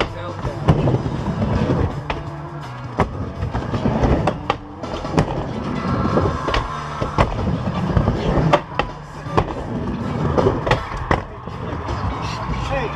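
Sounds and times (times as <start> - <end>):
skateboard wheels rolling on wood: 0.0 - 12.9.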